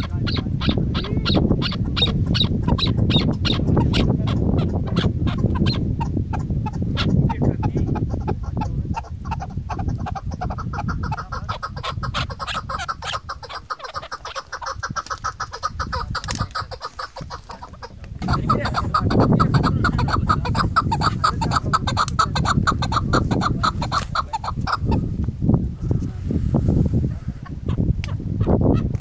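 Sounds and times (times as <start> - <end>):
partridge clucking calls: 0.0 - 26.1, 27.1 - 29.0.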